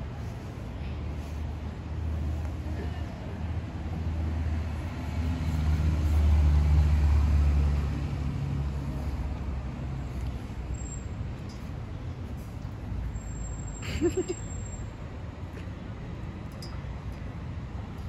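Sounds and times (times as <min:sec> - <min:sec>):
passing vehicle engine rumble: 0:00.0 - 0:18.0
street traffic noise: 0:00.0 - 0:18.0.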